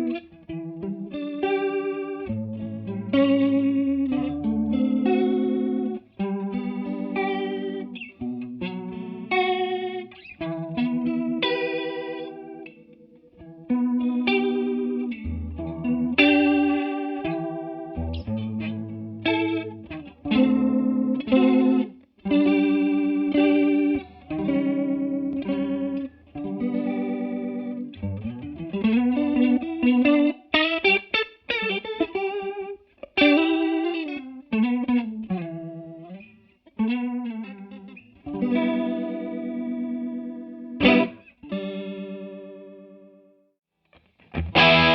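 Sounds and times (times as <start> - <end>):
electric guitar chords with chorus: 0.0 - 43.4, 44.2 - 44.9.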